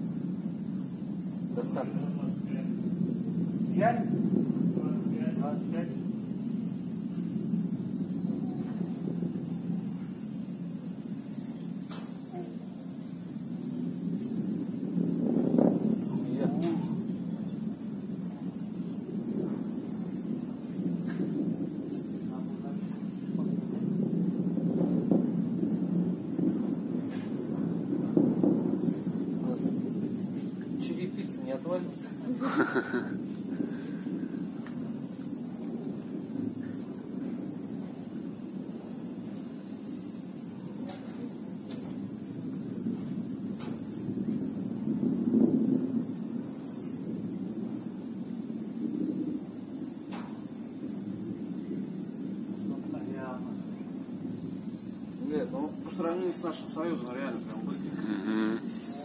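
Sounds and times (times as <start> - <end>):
distant rocket launch rumble: 0.0 - 59.0
insects trilling: 0.0 - 59.0.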